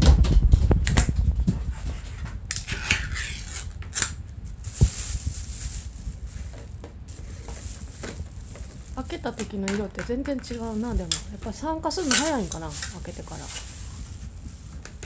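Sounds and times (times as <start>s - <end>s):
rustling: 1.4s - 15.0s.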